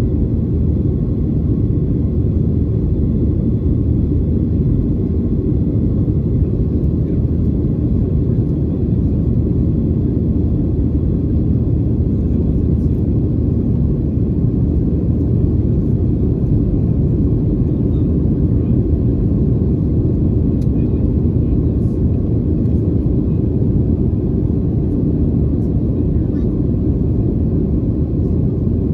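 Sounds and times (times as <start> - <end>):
airplane cabin engine rumble: 0.0 - 28.9.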